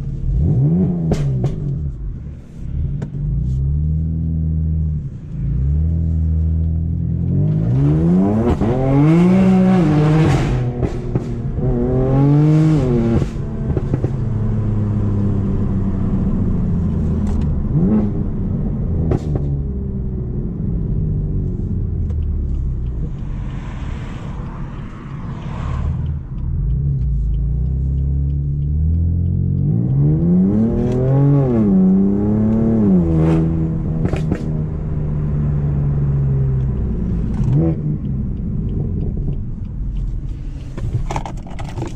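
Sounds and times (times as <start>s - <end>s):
car engine accelerating hard: 0.0s - 41.9s.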